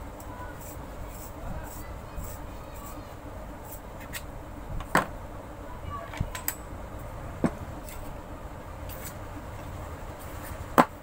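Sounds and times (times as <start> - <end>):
low steady background hum: 0.0 - 11.0.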